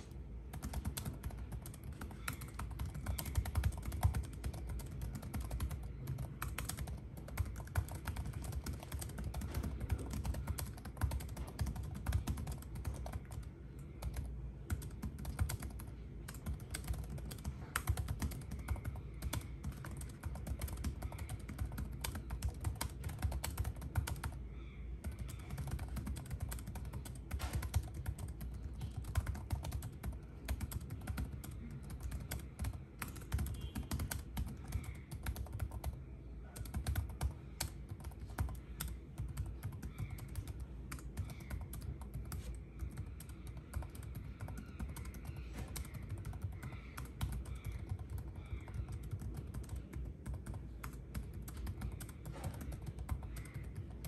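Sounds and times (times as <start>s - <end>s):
fast typing on laptop keyboard: 0.5s - 24.4s, 25.0s - 54.0s.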